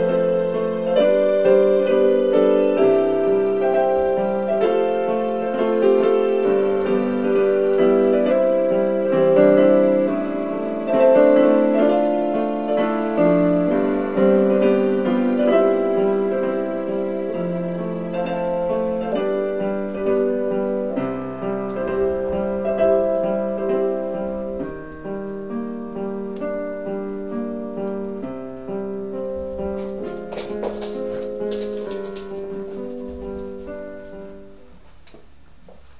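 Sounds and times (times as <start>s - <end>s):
slow soft piano music: 0.0s - 35.9s.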